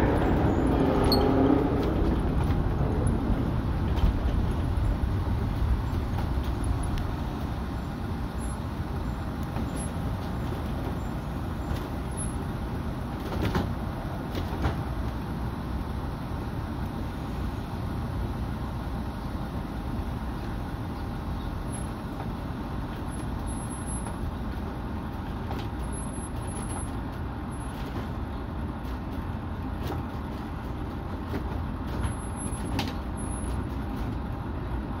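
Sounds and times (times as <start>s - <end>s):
funicular car rumbling: 0.0s - 35.0s.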